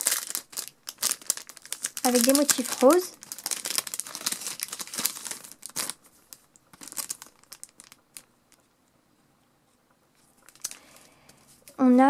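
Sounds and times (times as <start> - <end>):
plastic packet crinkling: 0.0 - 8.6, 10.4 - 11.8.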